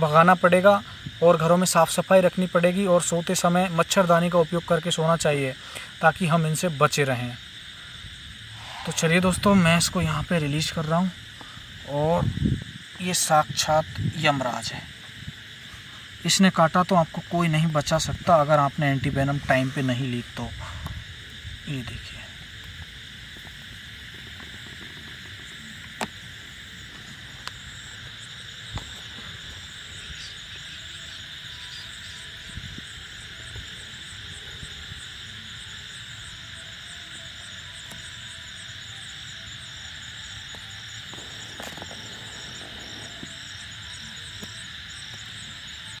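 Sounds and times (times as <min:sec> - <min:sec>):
insects hissing: 0:00.0 - 0:46.0
pulsing insect trill: 0:00.0 - 0:46.0.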